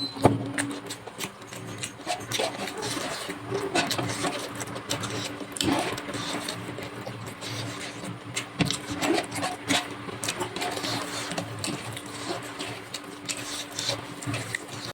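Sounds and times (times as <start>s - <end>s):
chewing and lip smacking: 0.6s - 14.9s.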